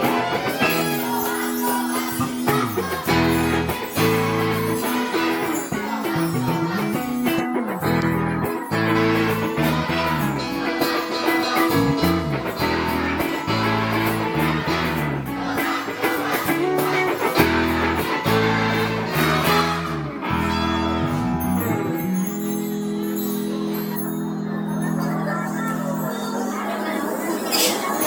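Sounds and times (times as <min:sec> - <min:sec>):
instrumental band music: 0:00.0 - 0:25.3.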